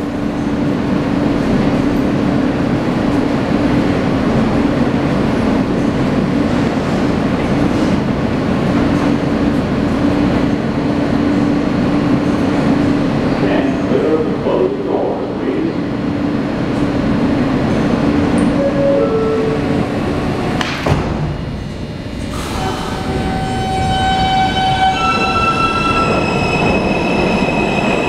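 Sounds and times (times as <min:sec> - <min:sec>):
subway car equipment hum: 0:00.0 - 0:28.0.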